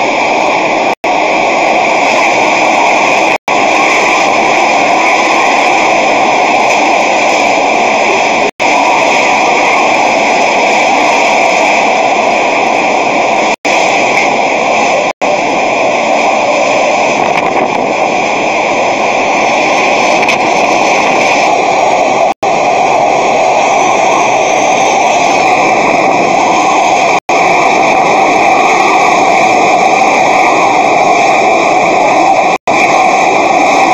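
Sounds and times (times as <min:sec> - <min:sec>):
driving rain: 0:00.0 - 0:33.9
hurricane wind blowing: 0:00.0 - 0:33.9.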